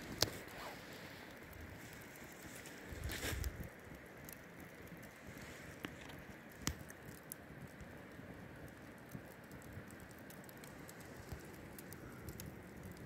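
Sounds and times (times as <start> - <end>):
fire crackling and hissing: 0.0 - 13.0
sharp pops of fire: 0.0 - 13.0.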